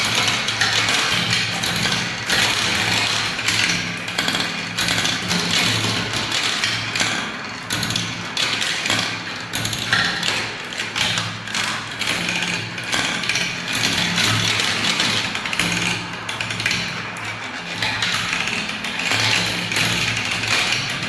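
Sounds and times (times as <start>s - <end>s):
balls clicking and rattling on tracks: 0.0s - 21.0s.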